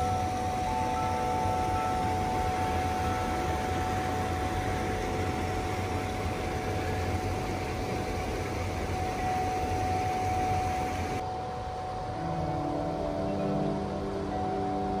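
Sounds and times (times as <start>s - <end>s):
faint held tones: 0.0s - 15.0s.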